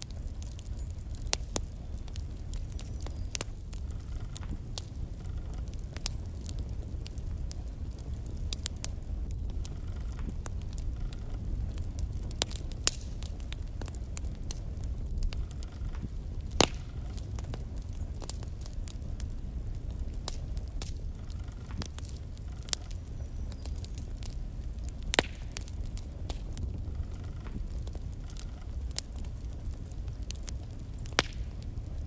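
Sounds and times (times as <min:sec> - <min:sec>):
fire rumbling: 0:00.0 - 0:32.0
logs crackling and popping: 0:00.0 - 0:32.0.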